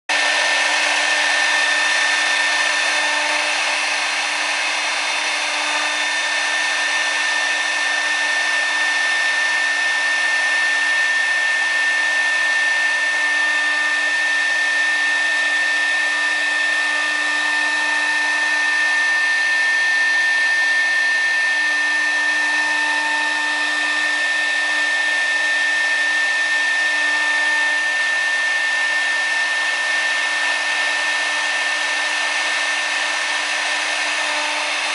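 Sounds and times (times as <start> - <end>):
router spindle whine: 0.1 - 34.9.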